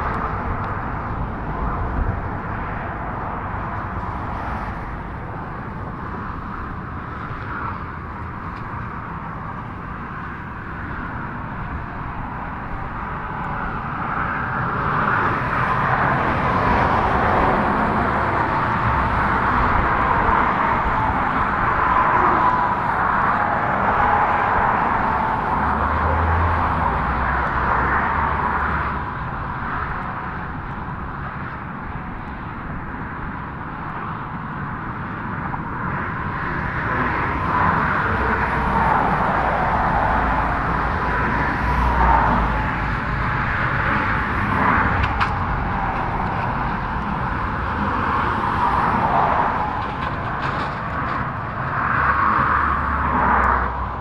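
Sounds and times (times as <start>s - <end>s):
highway traffic hiss: 0.0s - 54.0s.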